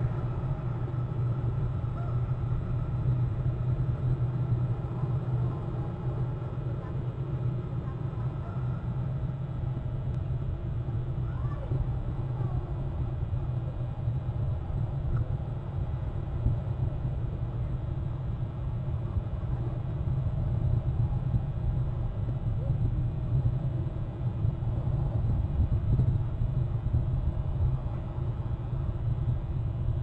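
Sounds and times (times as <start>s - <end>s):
outdoor background rumble: 0.0s - 30.0s.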